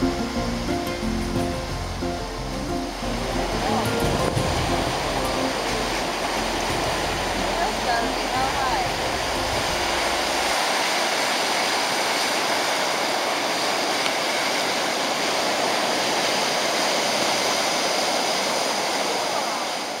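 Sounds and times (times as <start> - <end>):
ocean surf on rocks: 0.0 - 20.0.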